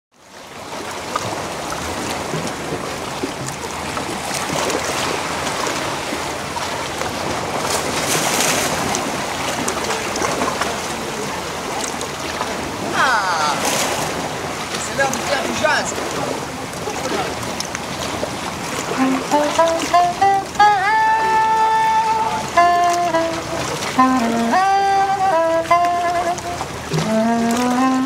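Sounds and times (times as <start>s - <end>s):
water lapping against rocks: 0.3s - 28.0s.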